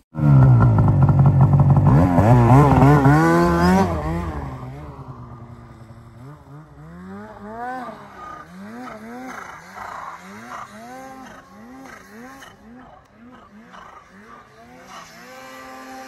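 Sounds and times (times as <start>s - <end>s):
snowmobile engine revving: 0.2s - 16.0s.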